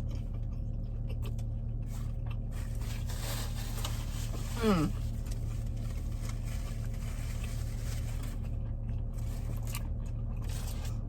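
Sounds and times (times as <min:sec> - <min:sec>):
car cabin engine hum: 0:00.0 - 0:11.0
faint scrapes and clicks from eating: 0:00.0 - 0:11.0.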